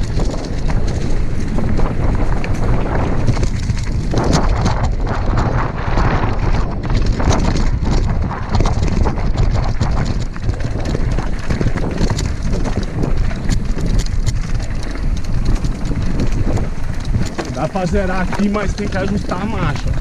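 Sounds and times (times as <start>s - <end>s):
bike tyres clattering on dirt trail: 0.0s - 20.0s
wind buffeting microphone: 0.0s - 20.0s.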